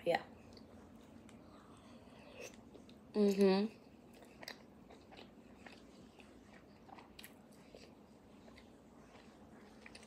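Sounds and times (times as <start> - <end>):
person chewing with mouth clicks: 0.5 - 10.0.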